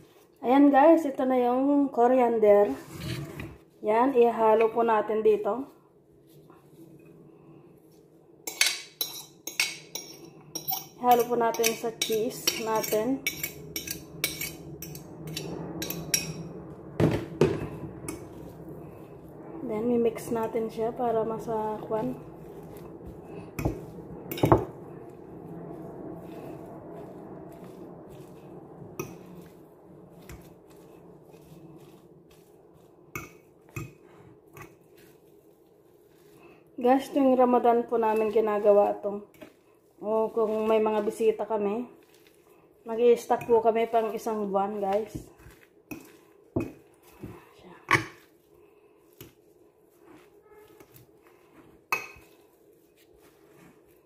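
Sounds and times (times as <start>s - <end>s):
fork stirring in a bowl: 0.0s - 0.4s, 7.9s - 54.0s.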